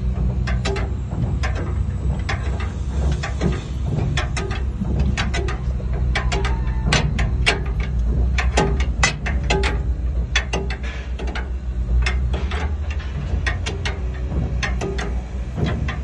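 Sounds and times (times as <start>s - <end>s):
generator low hum: 0.0s - 16.0s.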